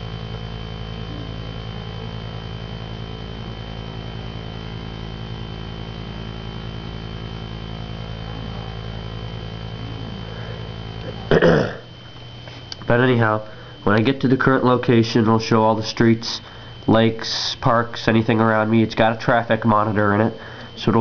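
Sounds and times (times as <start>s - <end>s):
electrical hum with hiss: 0.0s - 21.0s
thin high whine: 0.0s - 21.0s.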